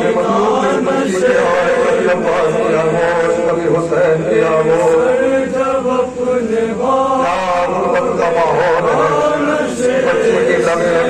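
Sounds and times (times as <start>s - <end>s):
man chanting a wailing lament: 0.0s - 11.0s.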